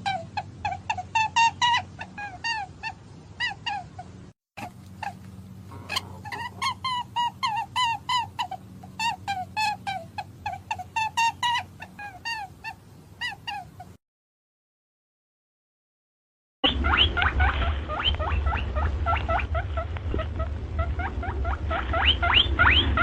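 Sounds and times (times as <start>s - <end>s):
small animal squeaky chirping: 0.0s - 14.0s, 16.6s - 23.0s
steady low hum: 0.0s - 14.0s, 16.6s - 23.0s.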